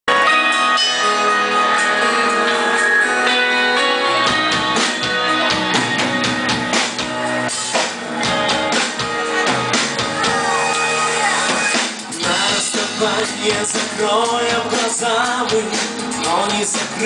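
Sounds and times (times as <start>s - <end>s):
live band playing: 0.1s - 17.0s.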